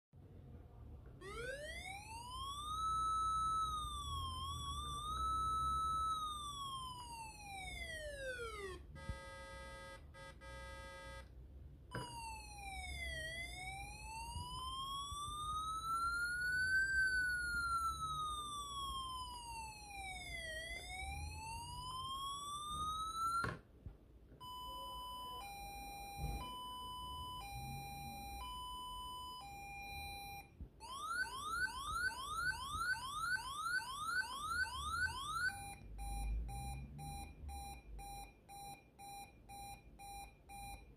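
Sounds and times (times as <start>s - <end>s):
electronic siren through loudspeaker: 1.2s - 11.3s, 11.9s - 23.6s, 24.4s - 38.3s.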